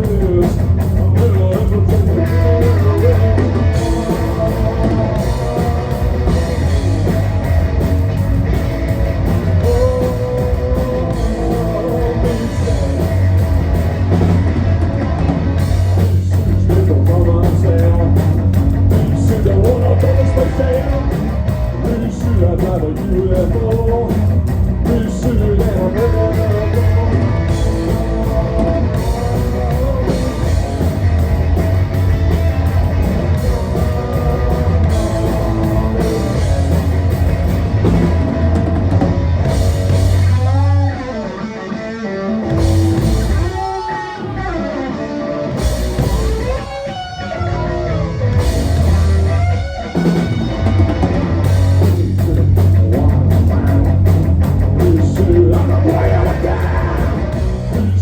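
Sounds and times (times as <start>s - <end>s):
drum kit: 0.0s - 41.5s, 42.4s - 58.0s
bass guitar: 0.0s - 58.0s
electric guitar: 0.0s - 58.0s.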